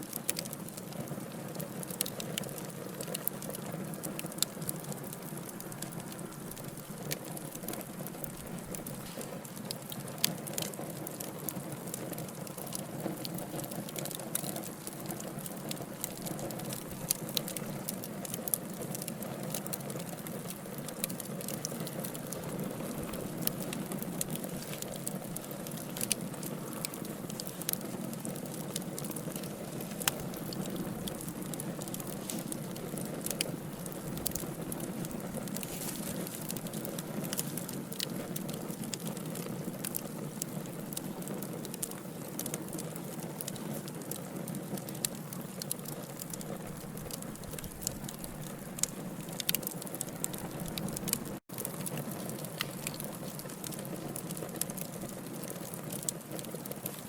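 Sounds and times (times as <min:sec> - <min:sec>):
burning logs crackling: 0:00.0 - 0:57.0
hiss and rumble of flames: 0:00.0 - 0:57.0.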